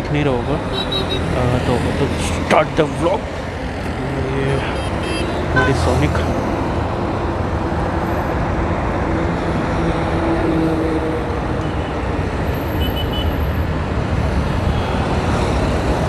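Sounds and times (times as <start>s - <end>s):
surrounding traffic: 0.0s - 16.0s.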